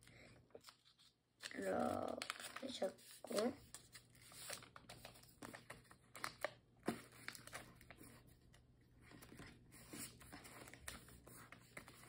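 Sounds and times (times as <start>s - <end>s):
paper crinkling and creasing: 0.0s - 12.0s.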